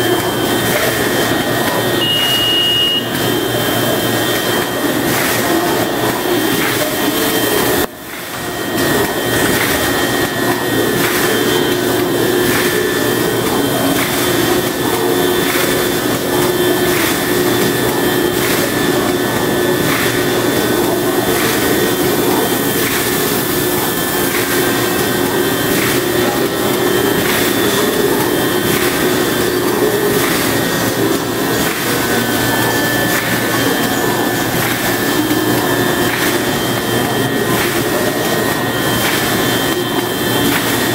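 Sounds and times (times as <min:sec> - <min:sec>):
machine mechanical drone: 0:00.0 - 0:40.9.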